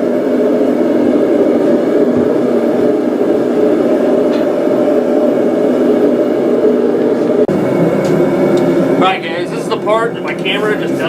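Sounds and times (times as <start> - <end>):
forge roaring: 0.0 - 11.0.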